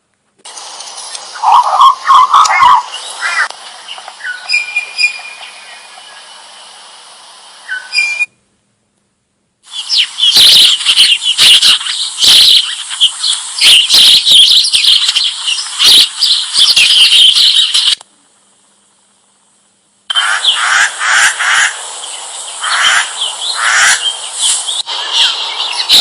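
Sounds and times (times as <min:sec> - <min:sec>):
small birds chirping: 0:00.5 - 0:06.8, 0:07.6 - 0:08.3, 0:09.6 - 0:26.0.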